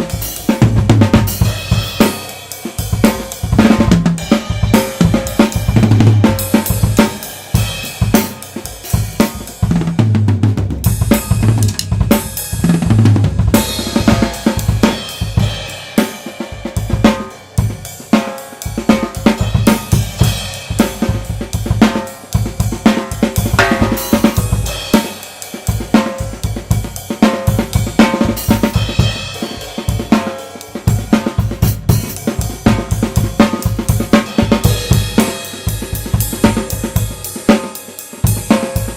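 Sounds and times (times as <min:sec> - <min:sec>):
cymbals: 0:00.0 - 0:09.8, 0:10.8 - 0:38.9
snare drum: 0:02.9 - 0:38.9.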